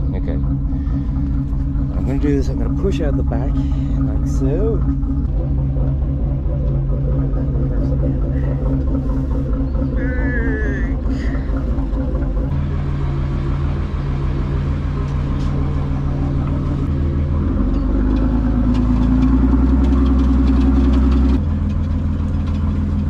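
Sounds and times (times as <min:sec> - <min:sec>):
boat diesel engine running: 0:00.0 - 0:23.0.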